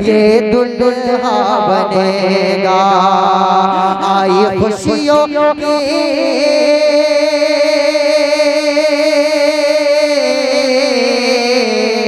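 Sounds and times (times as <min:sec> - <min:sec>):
man singing a long note: 0:00.0 - 0:12.0.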